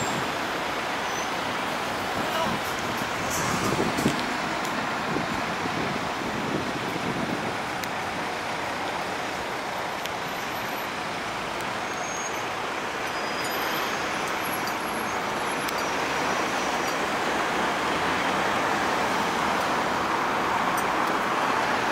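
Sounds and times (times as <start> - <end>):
road traffic passing: 0.0 - 21.9.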